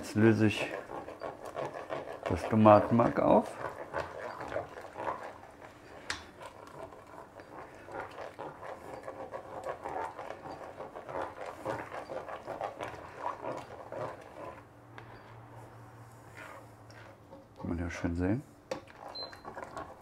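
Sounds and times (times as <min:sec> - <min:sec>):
spoon stirring and scraping pot: 0:00.0 - 0:20.0.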